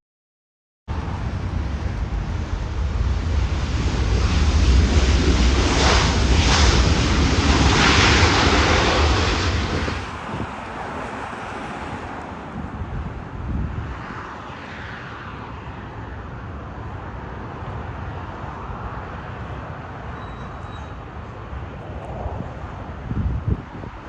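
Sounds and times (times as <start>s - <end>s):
wind buffeting microphone: 0.9s - 15.0s, 16.1s - 24.0s
jet airliner engines: 0.9s - 24.0s.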